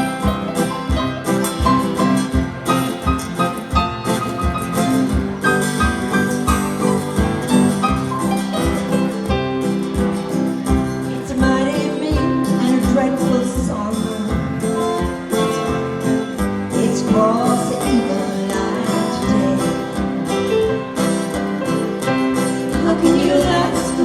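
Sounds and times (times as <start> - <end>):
acoustic folk band playing: 0.0 - 24.0
guitar: 0.0 - 24.0.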